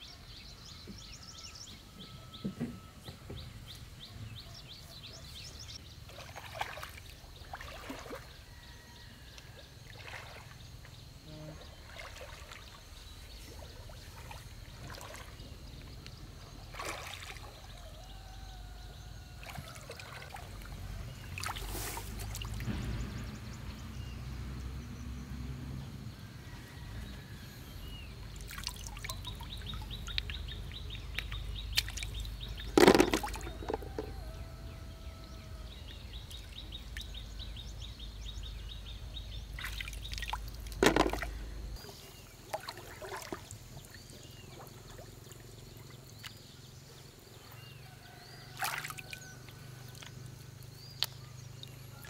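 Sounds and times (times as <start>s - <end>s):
muddy water sloshing: 3.3s - 24.2s, 27.8s - 52.0s
water splashes: 5.3s - 25.2s, 28.2s - 38.6s, 39.3s - 46.8s, 47.5s - 52.0s.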